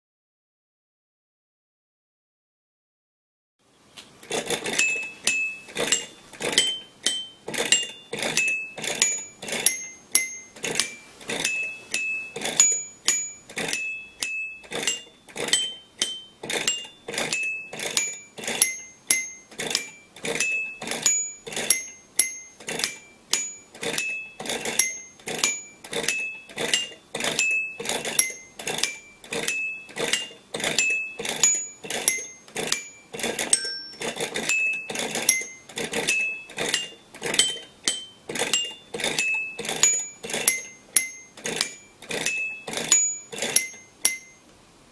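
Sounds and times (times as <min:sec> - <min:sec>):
glockenspiel metallic notes: 0:04.5 - 0:44.5.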